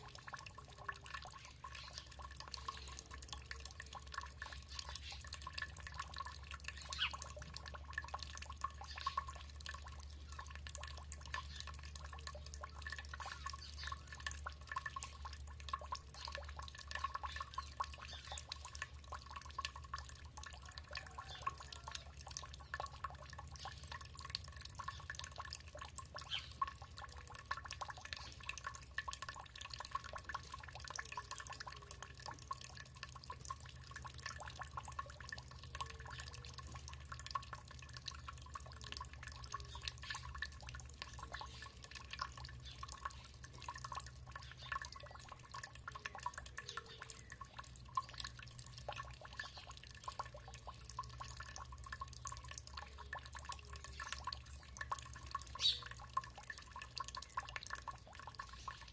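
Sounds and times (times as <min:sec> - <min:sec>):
water dripping and trickling: 0:00.0 - 0:58.9.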